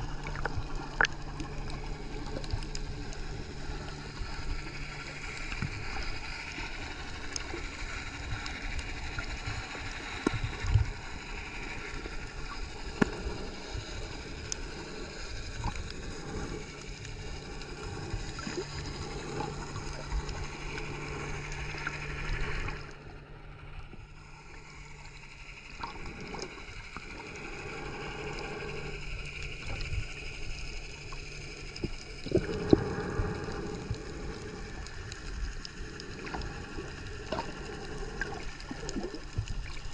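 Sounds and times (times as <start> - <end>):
low hum: 0.0 - 39.9
muffled underwater water wash: 0.0 - 39.9.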